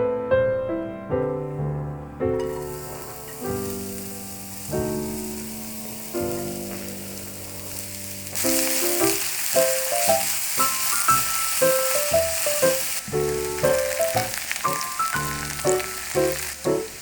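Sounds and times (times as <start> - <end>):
soft piano music: 0.0 - 17.0
food sizzling in frying pan: 2.4 - 17.0.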